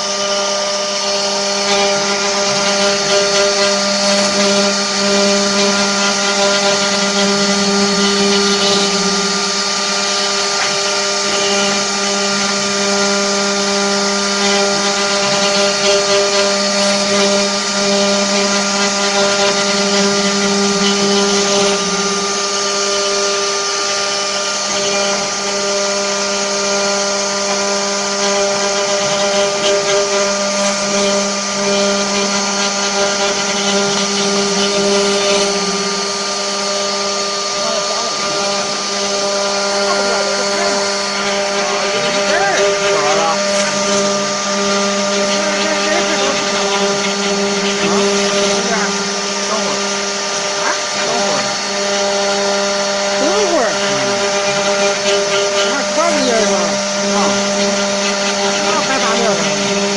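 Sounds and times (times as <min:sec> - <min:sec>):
wood router spindles whining: 0:00.0 - 0:59.9.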